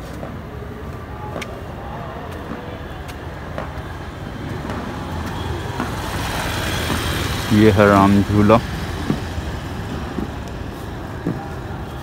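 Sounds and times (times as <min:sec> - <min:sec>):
faint distant voices: 0:00.0 - 0:08.6, 0:10.0 - 0:12.0.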